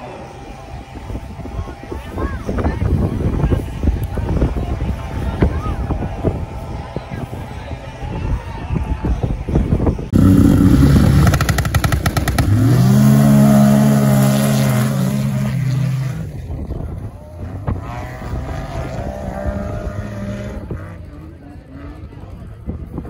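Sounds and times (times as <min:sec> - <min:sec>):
snowmobiles at full throttle: 0:00.0 - 0:23.0.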